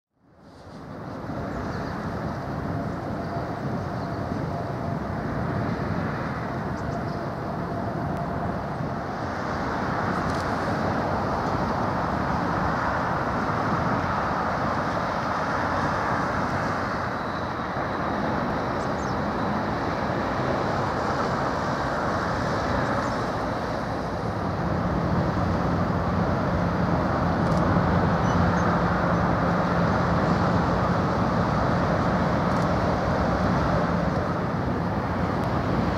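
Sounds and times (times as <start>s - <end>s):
traffic rumble: 0.2s - 35.9s
distant machinery: 0.3s - 35.9s.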